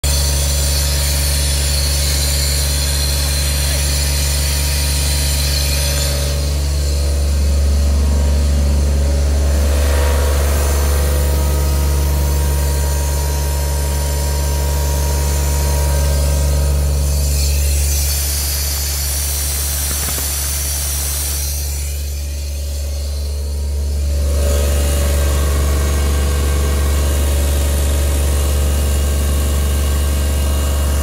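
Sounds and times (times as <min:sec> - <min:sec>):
air compressor diesel engine running: 0:00.0 - 0:31.0.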